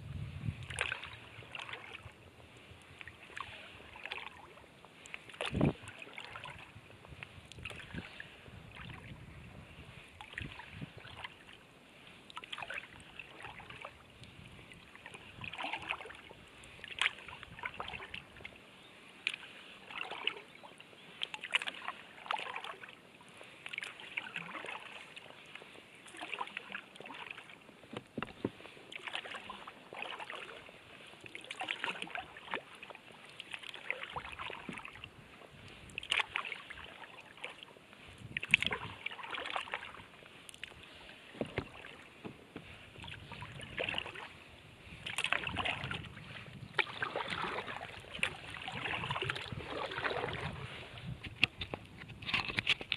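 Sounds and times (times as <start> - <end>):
paddle splashing in water: 0.5 - 52.9.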